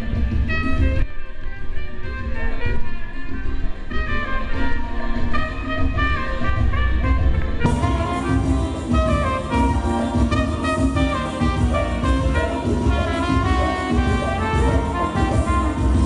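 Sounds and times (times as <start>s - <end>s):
dance band music: 0.0s - 16.0s.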